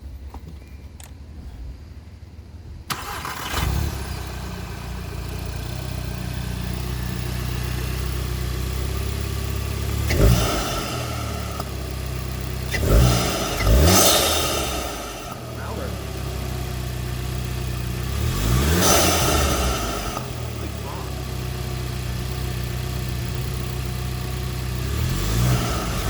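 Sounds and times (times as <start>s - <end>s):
car engine starting and idling: 0.0s - 26.0s
engine throttle blips: 2.8s - 26.0s.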